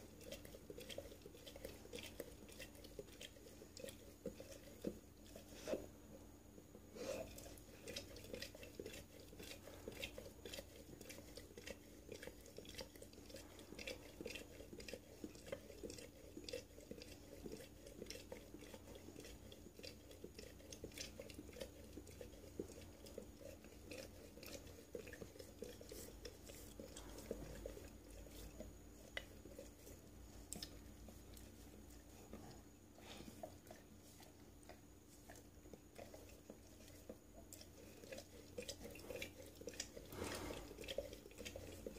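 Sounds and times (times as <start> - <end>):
dog lapping liquid: 0.0 - 41.9.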